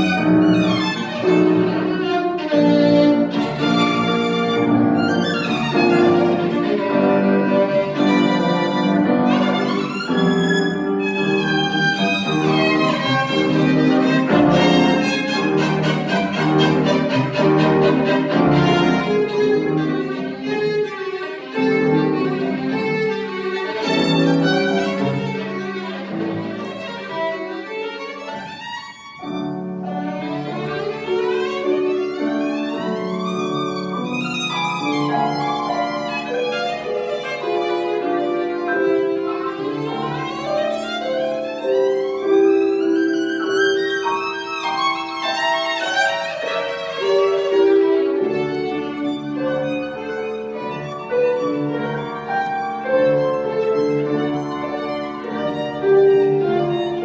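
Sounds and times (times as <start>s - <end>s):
piano accompaniment: 0.0s - 57.0s
solo violin fast scale runs: 0.0s - 57.0s.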